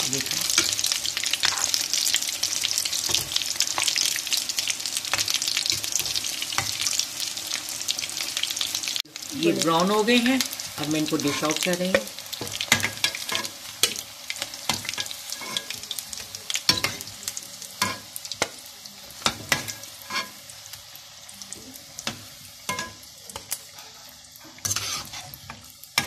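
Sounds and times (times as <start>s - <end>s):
deep-frying sizzle and crackles: 0.0s - 26.0s.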